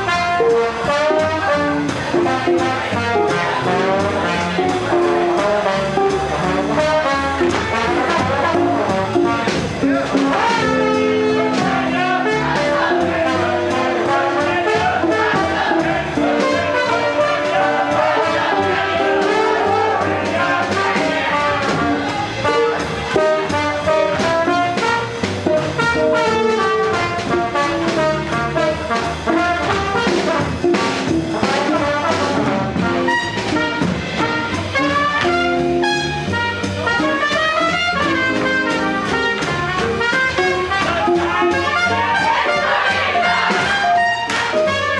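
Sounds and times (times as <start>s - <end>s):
swing jazz band with brass: 0.0s - 44.9s.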